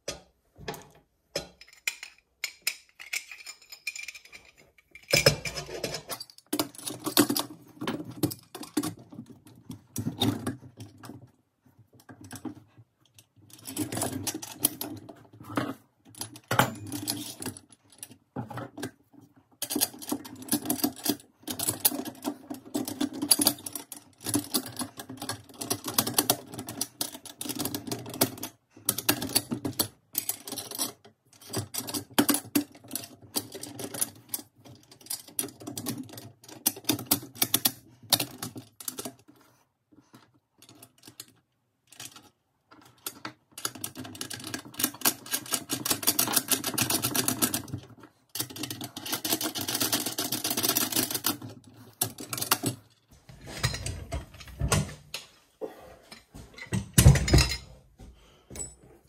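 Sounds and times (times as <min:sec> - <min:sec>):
metal parts clicking and rattling: 0:00.0 - 0:11.4, 0:12.0 - 0:39.4, 0:40.1 - 0:55.3, 0:56.1 - 0:57.7.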